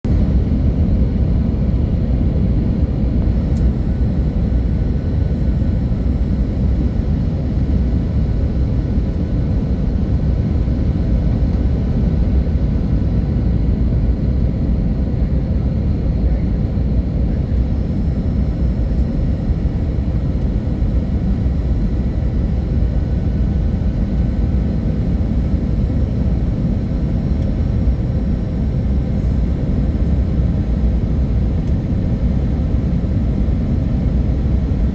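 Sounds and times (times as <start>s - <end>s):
jet engine and airflow rumble: 0.0s - 34.9s
faint steady whine: 3.2s - 34.9s.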